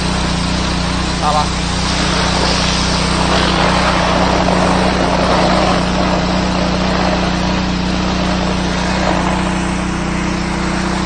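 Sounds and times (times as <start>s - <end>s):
pressure washer engine hum: 0.0s - 11.0s
water jet hissing on concrete: 0.0s - 11.0s.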